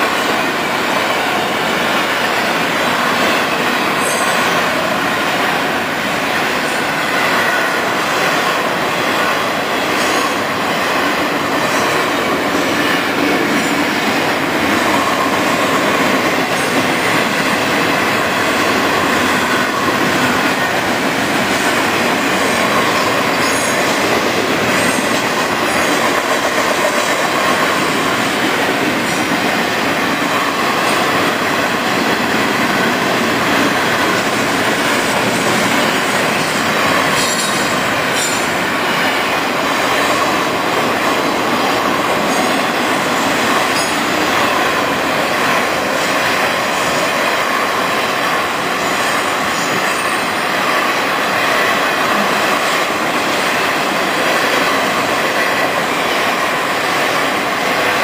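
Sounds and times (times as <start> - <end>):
freight train wheels on rail: 0.0 - 58.0.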